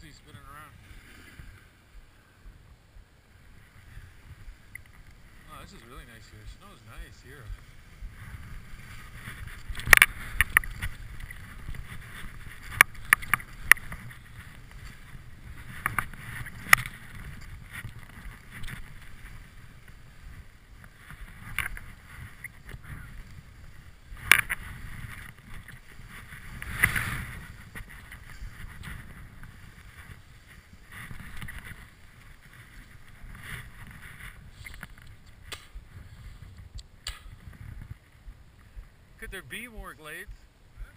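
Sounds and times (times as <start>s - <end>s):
skis swishing through snow: 3.3s - 39.5s.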